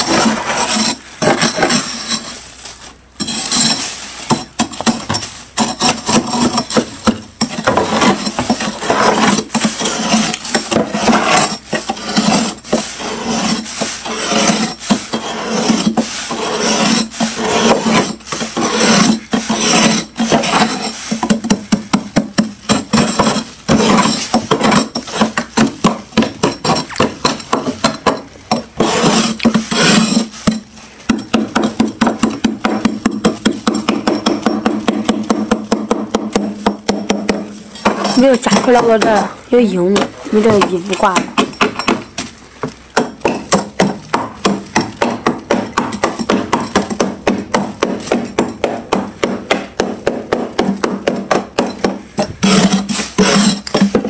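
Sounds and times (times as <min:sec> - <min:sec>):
metal scraper scraping frost: 0:00.0 - 0:48.4, 0:51.6 - 0:54.0.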